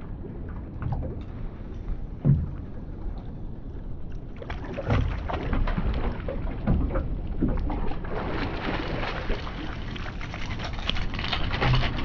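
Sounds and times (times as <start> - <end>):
water and boat noise: 0.0 - 12.0.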